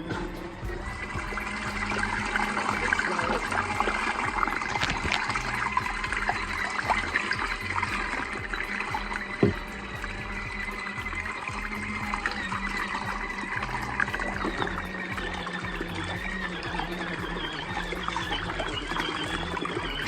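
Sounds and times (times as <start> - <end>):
washing machine motor hum: 0.0 - 20.0
water churning and sloshing: 0.0 - 20.0.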